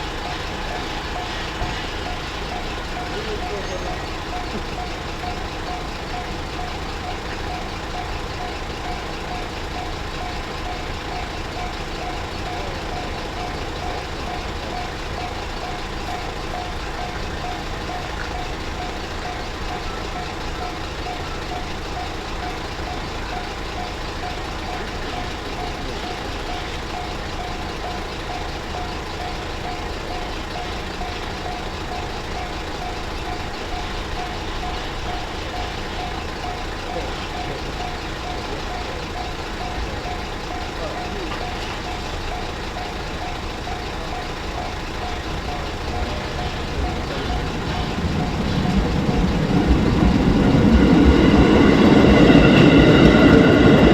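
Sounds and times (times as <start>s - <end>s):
level crossing alarm ringing: 0.0s - 53.9s.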